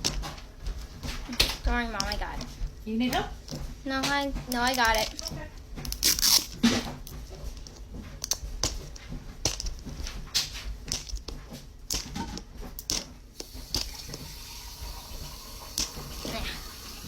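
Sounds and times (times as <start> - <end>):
plastic clicking and crinkling: 0.0 - 14.4, 15.7 - 16.6.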